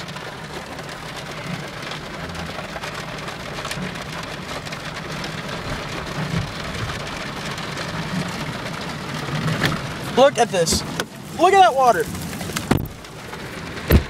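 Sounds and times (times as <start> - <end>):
car engine humming: 0.0 - 14.0
steady rain: 0.0 - 14.0.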